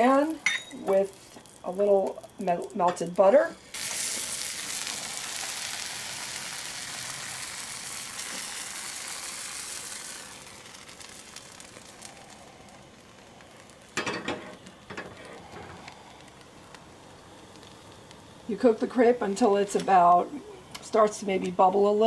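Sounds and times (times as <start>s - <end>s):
batter sizzling in a pan: 0.0s - 22.0s.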